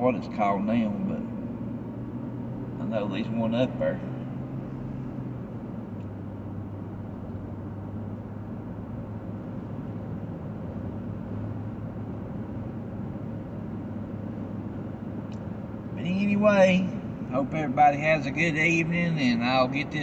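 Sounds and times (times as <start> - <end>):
car engine drone in cabin: 0.0 - 20.0.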